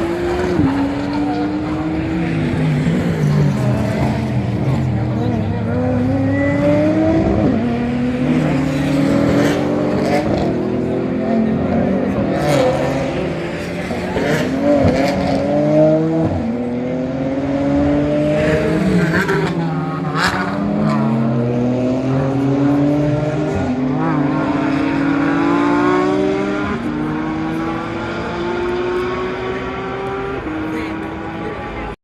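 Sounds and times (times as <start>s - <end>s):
racing car engines accelerating: 0.0s - 32.0s.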